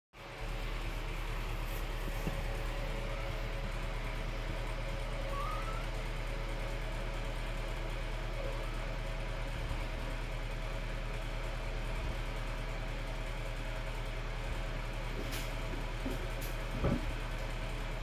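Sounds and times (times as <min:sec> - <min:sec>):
low mechanical hum: 0:00.2 - 0:18.0.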